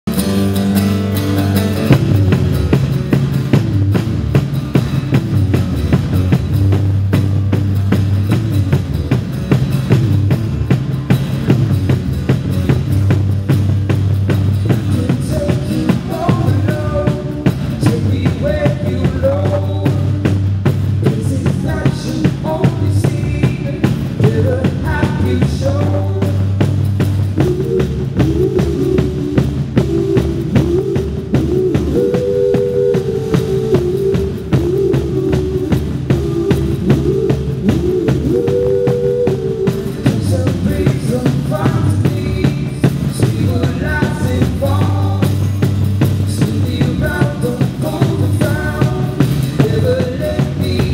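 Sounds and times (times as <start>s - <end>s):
bass guitar: 0.0s - 50.9s
drum kit: 0.0s - 50.9s
guitars: 0.0s - 50.9s
singing or lead guitar melody: 0.1s - 50.9s.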